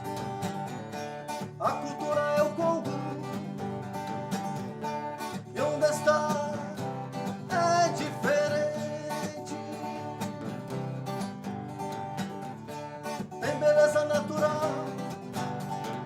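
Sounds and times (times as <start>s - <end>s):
lead guitar bending melody: 0.0s - 16.0s.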